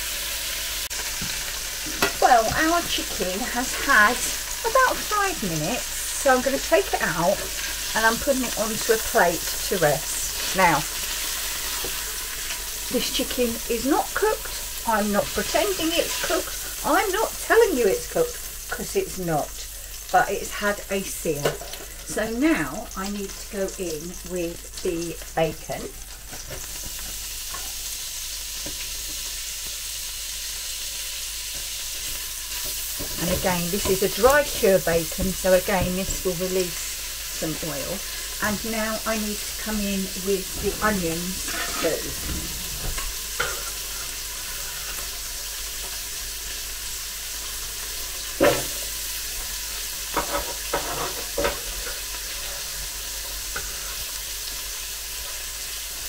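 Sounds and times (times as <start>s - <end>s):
bacon sizzling in oil: 0.0s - 56.0s.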